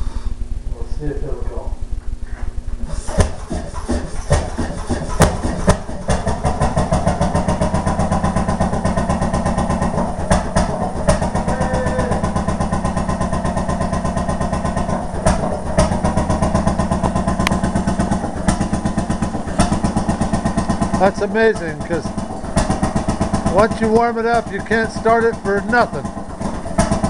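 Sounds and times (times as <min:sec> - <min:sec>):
sharp engine cracks: 0:02.8 - 0:27.0
stationary engine firing: 0:02.8 - 0:27.0.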